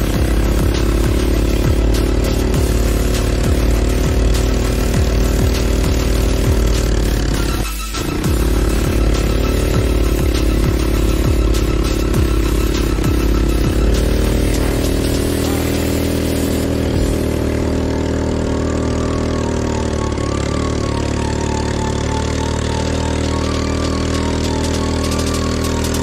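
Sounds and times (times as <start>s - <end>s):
atv engine idling: 0.0s - 26.0s.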